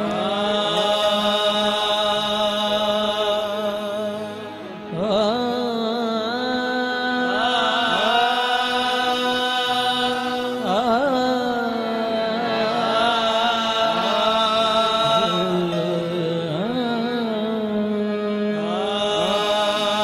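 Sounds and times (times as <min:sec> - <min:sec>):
harmonium drone: 0:00.0 - 0:20.0
person singing long notes: 0:00.0 - 0:20.0.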